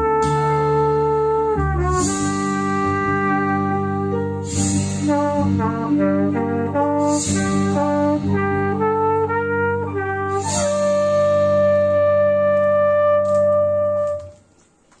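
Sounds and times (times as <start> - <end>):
held low chord: 0.0 - 14.3
flugelhorn melody: 0.0 - 14.6.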